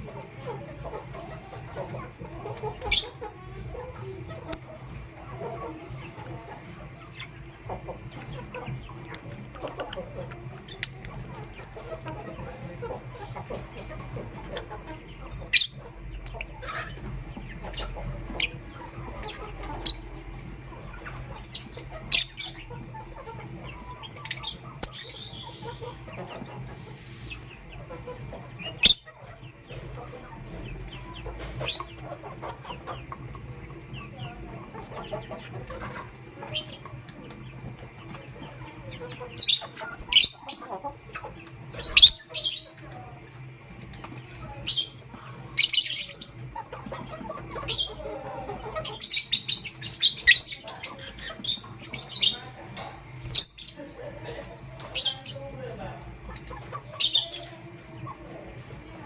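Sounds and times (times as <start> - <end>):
lovebirds chirping: 0.0 - 59.0
low bird chattering: 0.0 - 59.0.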